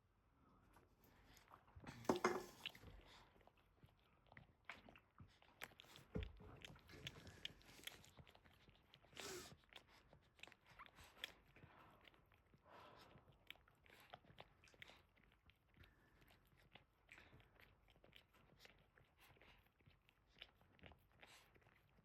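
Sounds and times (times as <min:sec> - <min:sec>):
dog licking and chewing: 0:01.2 - 0:22.0.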